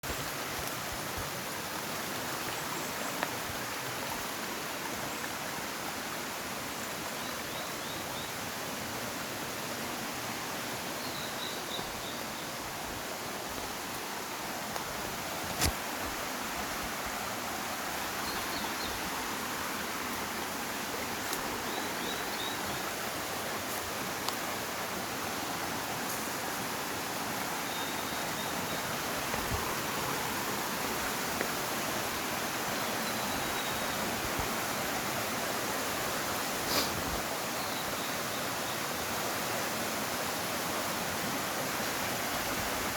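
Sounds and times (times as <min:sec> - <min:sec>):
stream rushing: 0:00.0 - 0:42.9.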